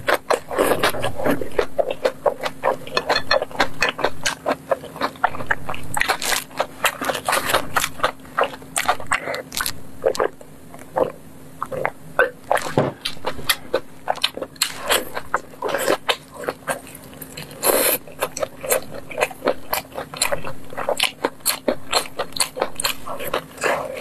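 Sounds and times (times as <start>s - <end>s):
wet chewing: 0.0s - 24.0s.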